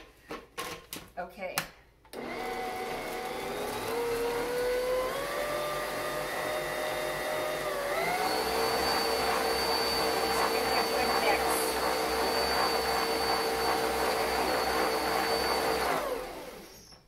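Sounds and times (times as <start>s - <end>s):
stand mixer motor whining: 2.2s - 16.8s.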